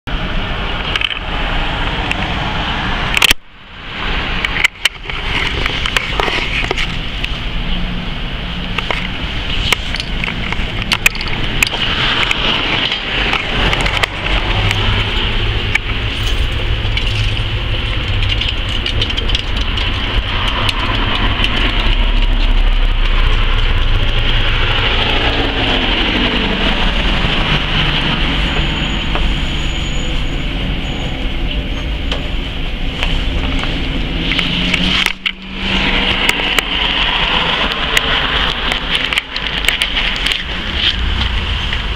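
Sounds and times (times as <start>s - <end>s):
car traffic: 0.0s - 41.9s
passing vehicle rumble: 0.1s - 41.9s.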